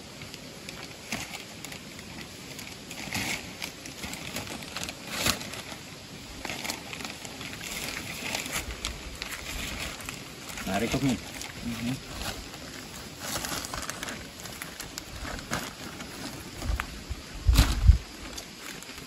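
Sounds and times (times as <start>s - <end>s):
plastic tarp crinkling and rustling: 0.0s - 19.0s.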